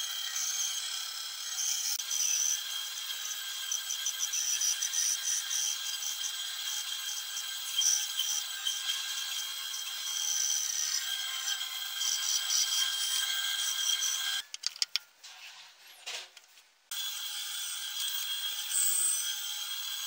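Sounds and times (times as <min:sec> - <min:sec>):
bandsaw cutting wood: 0:00.0 - 0:14.4, 0:16.9 - 0:20.0.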